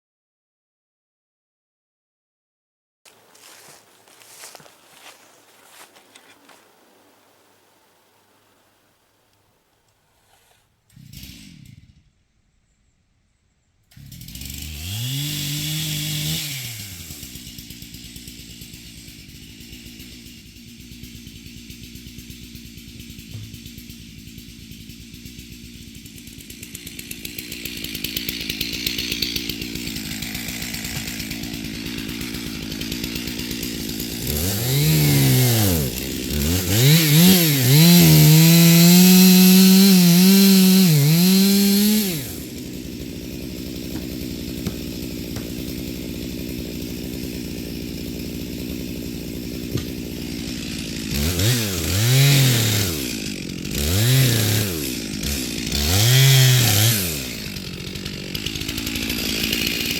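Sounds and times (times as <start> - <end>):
chainsaw revving and cutting wood: 3.1 - 12.2, 13.9 - 59.9.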